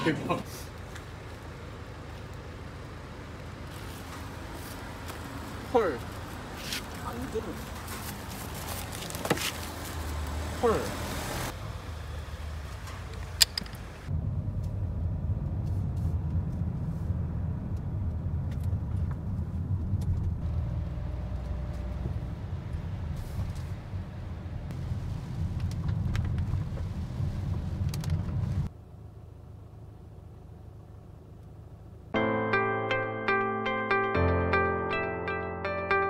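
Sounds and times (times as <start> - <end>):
car road and engine rumble: 0.0 - 35.1.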